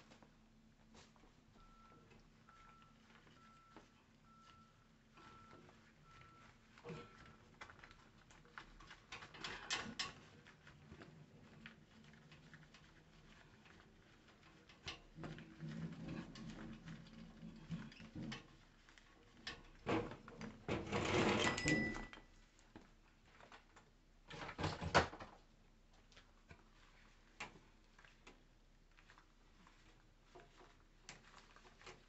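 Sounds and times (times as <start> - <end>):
scraping and rustling: 0.9 - 24.8, 26.0 - 32.0.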